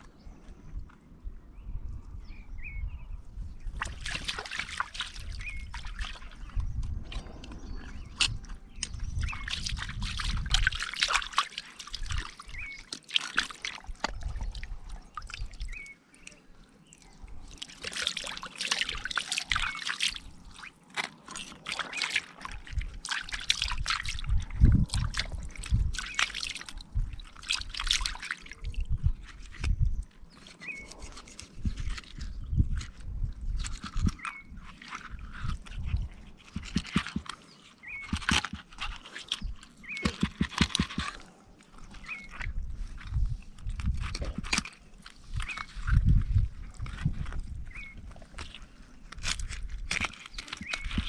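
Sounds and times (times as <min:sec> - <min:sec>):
water splashing and trickling: 0:03.4 - 0:51.0
clicks and knocks in water: 0:03.7 - 0:51.0.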